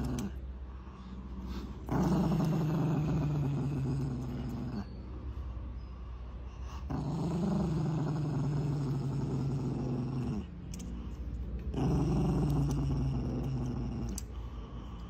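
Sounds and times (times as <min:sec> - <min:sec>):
small dog growling: 0:00.0 - 0:00.4, 0:01.4 - 0:05.0, 0:06.7 - 0:15.0.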